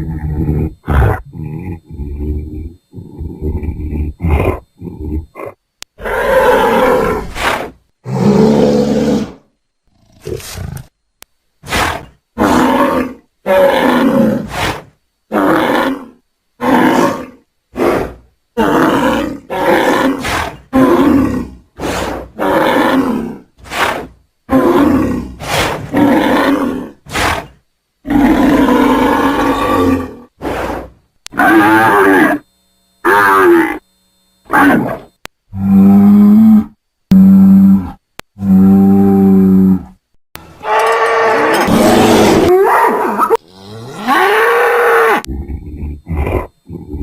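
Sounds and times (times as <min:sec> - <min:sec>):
bull bellowing: 0:00.0 - 0:09.4, 0:15.3 - 0:32.4, 0:33.0 - 0:33.8, 0:34.5 - 0:47.0.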